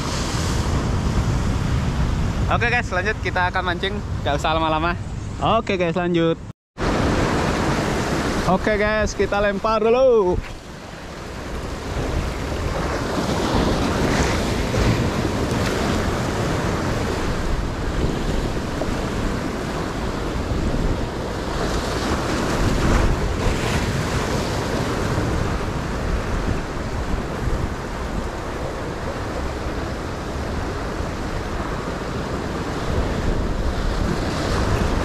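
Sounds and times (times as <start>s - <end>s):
surf washing over rocky shore: 6.8s - 35.0s
wind buffeting microphone: 6.8s - 35.0s.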